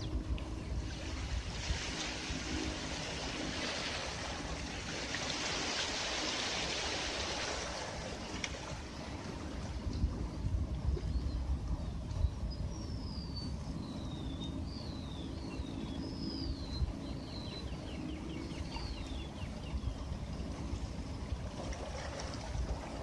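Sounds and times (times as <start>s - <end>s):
wind rumble: 0.0s - 23.0s.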